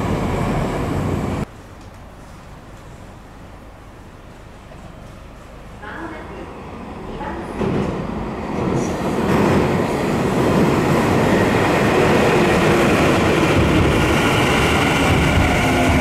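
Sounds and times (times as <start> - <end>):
train rumble and wheel noise: 0.0 - 16.0.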